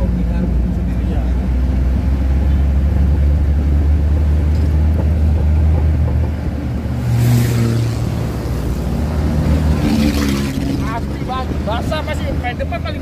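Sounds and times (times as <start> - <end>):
jeep engine running: 0.0 - 13.0
wind and road noise: 0.0 - 13.0.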